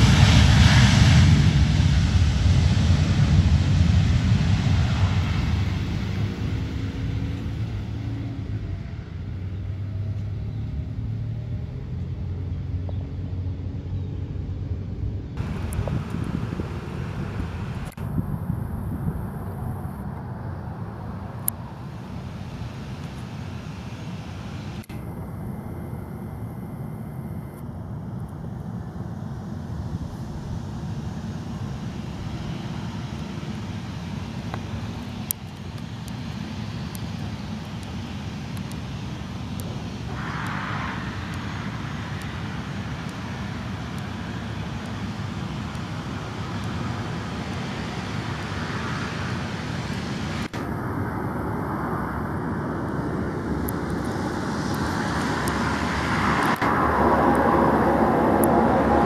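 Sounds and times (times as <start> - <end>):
distant jet engines rumbling: 0.0 - 59.0.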